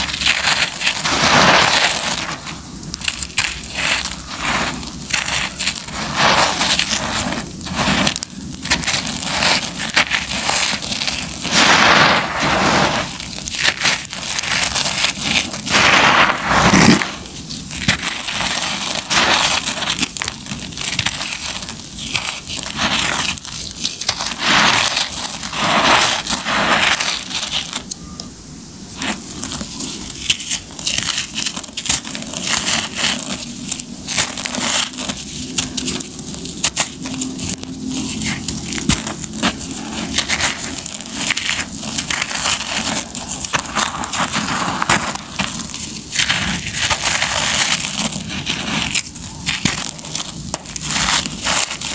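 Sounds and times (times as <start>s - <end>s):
concrete lumps crunching by hand: 0.0s - 28.0s, 29.0s - 51.9s.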